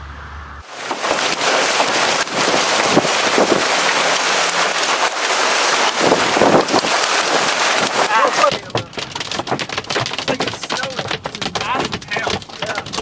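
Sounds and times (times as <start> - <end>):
hail and heavy rain: 0.6 - 13.0.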